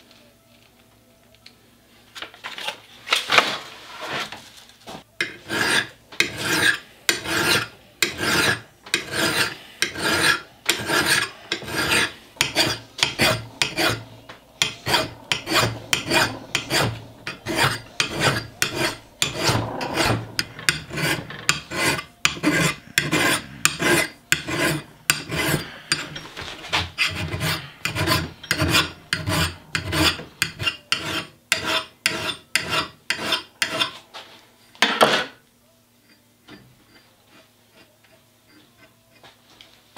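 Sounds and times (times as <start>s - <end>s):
file scraping steel: 5.2s - 34.0s, 36.0s - 39.4s.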